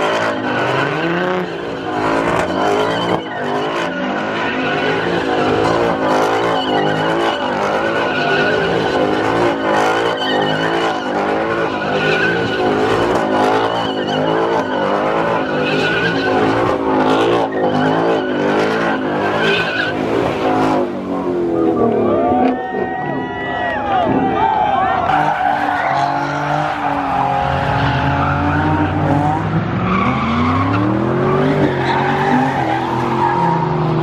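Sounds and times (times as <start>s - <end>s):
car engine revving: 0.0s - 22.4s, 25.0s - 34.0s
tires squealing: 0.0s - 34.0s.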